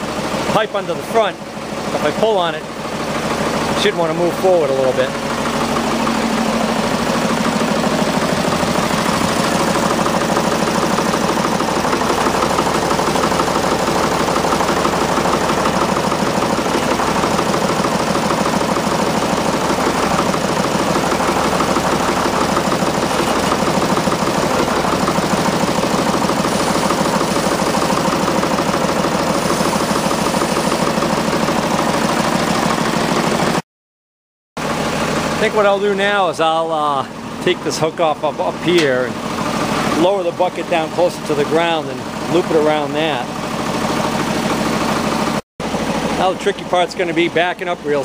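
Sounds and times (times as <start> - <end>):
loader engine running: 0.0 - 33.6, 34.6 - 48.0.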